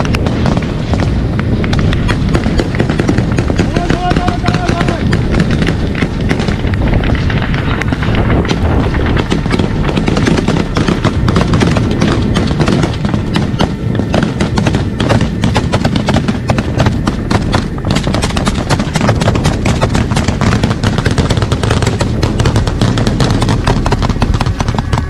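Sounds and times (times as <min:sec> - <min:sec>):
gunfire: 0:00.0 - 0:25.0
heavy low rumble: 0:00.0 - 0:25.0.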